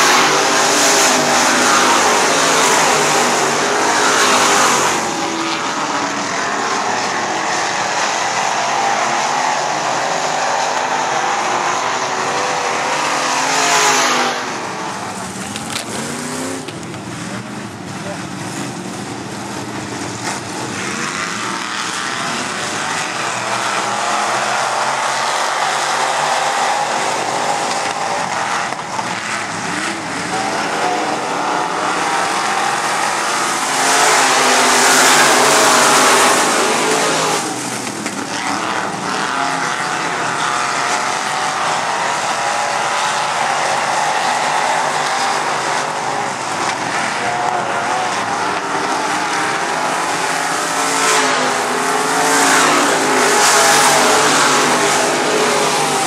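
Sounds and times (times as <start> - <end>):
race car engines droning: 0.0 - 56.0
race car passing close: 0.0 - 56.0.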